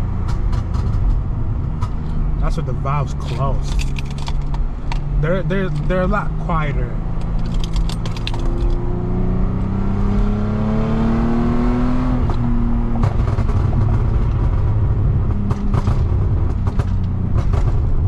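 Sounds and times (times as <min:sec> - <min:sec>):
exhaust pops: 0:00.0 - 0:08.9, 0:12.2 - 0:18.0
car engine accelerating: 0:00.0 - 0:18.0.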